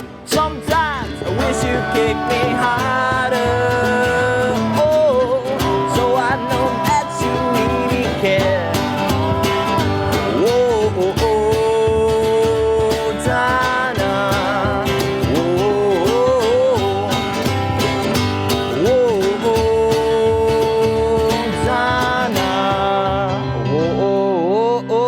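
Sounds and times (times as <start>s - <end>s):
rock band playing: 0.0s - 24.2s.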